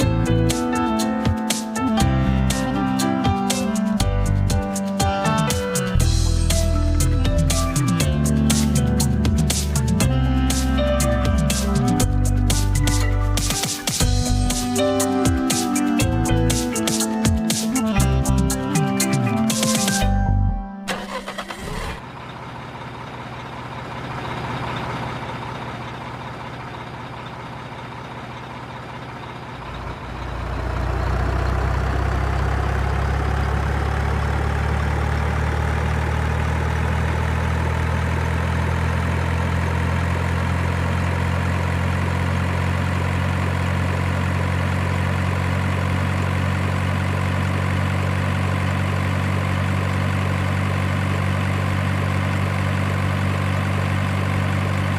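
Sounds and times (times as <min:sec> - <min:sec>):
engine idling: 0:00.0 - 0:20.2, 0:20.9 - 0:54.9.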